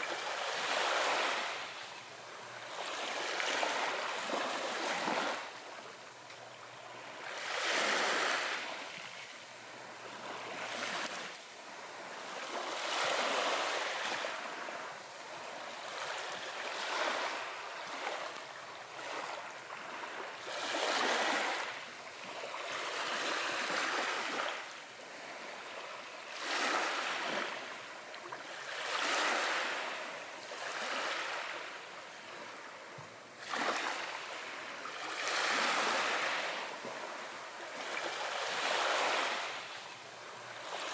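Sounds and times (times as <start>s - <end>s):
small waves washing onto beach: 0.0s - 40.9s.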